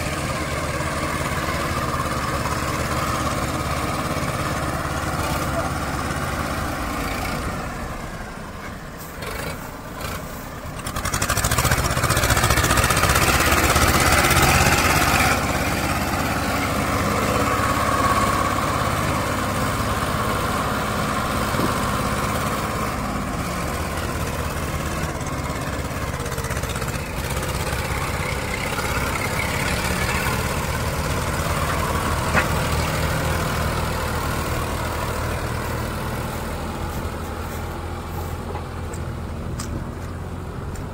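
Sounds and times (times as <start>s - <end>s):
tractor diesel engine straining: 0.0s - 40.9s.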